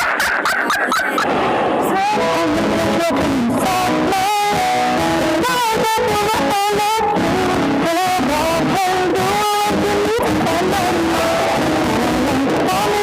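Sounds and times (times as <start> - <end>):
music with guitar: 1.2 - 13.0.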